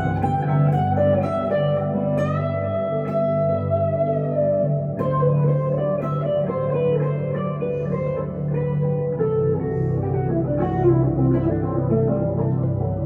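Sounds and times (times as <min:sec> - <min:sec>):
bass line: 0:00.0 - 0:13.0
electric guitar melody: 0:00.0 - 0:13.0.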